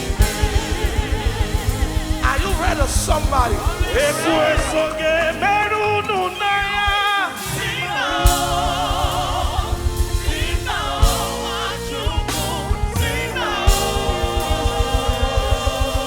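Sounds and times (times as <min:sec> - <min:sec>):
band playing gospel music: 0:00.0 - 0:16.0
fast drum hits: 0:00.0 - 0:16.0
singers with vibrato: 0:00.0 - 0:16.0.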